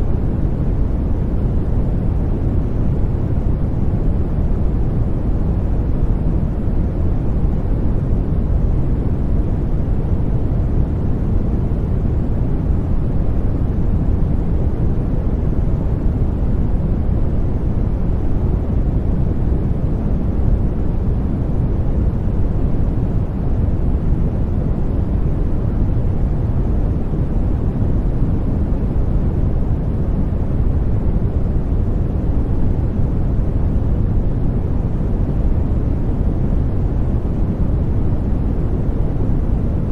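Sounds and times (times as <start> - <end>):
deep white noise: 0.0 - 39.9.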